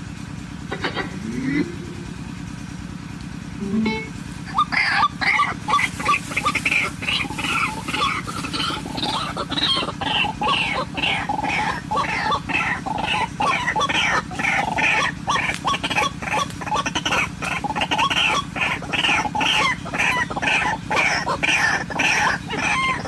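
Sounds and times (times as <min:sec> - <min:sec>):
steady low hum: 0:00.0 - 0:23.0
bird harsh clucking calls: 0:00.6 - 0:02.5, 0:03.6 - 0:23.0.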